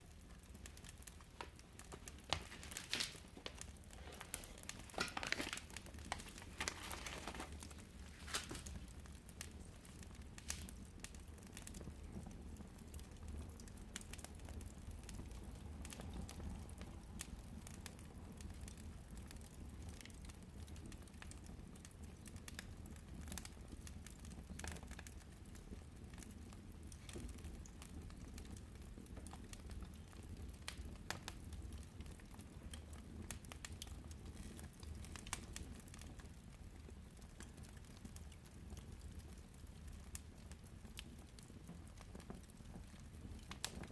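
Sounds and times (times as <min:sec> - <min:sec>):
burning logs crackling: 0:00.0 - 0:43.9
low steady fire rumble: 0:00.0 - 0:43.9.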